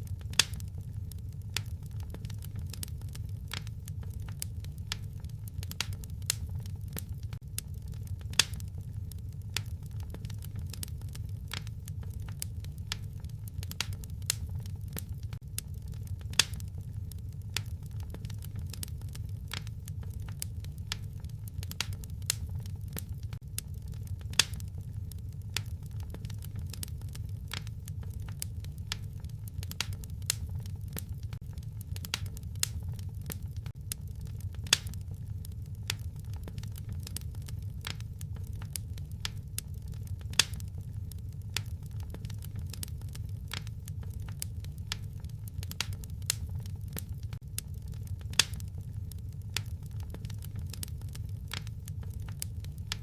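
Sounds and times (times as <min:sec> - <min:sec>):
low rumble of fire: 0:00.0 - 0:53.0
wood fire crackling and popping: 0:00.0 - 0:53.0.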